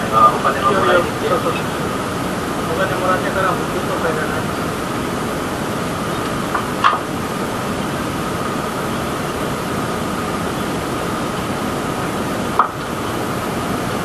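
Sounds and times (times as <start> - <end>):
boat engine drone: 0.0 - 14.0.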